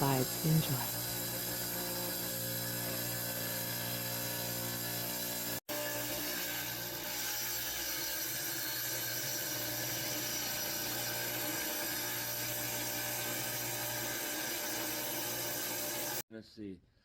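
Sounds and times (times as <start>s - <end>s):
tile saw cutting rock: 0.0s - 16.2s.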